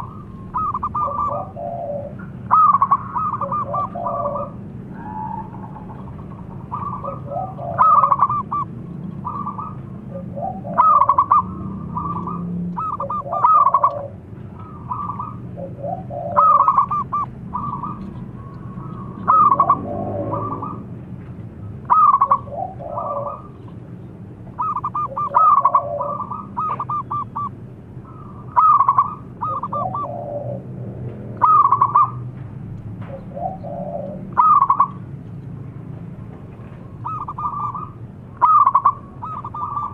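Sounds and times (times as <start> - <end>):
doves cooing: 0.0 - 32.4, 33.0 - 35.1, 36.5 - 39.9.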